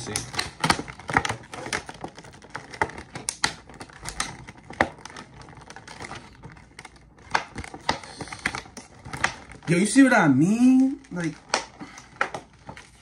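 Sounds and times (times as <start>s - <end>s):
plastic packaging crackling: 0.0s - 13.0s.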